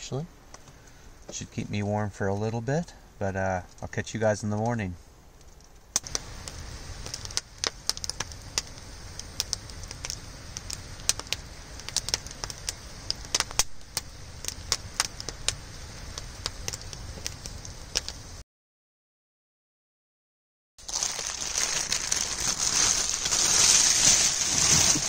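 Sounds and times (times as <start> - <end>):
campfire crackling and popping: 0.0 - 18.4, 20.8 - 25.0.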